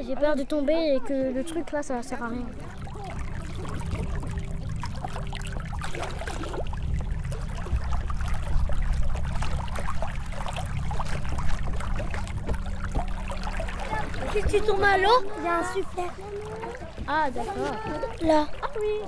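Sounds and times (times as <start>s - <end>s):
water lapping against boat hull: 0.4s - 19.0s
steady low rumble: 1.4s - 19.0s
small water splashes: 2.0s - 19.0s.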